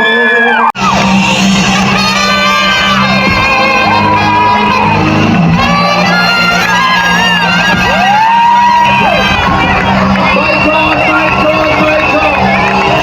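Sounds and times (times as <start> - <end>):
crowd singing and shouting: 0.0 - 13.0
loud live music: 0.0 - 13.0.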